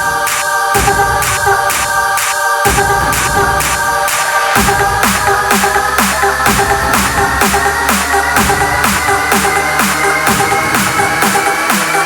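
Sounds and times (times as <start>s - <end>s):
electronic dance music: 0.0s - 12.0s
kick drum: 0.0s - 12.0s
sustained synth chords: 0.0s - 12.0s.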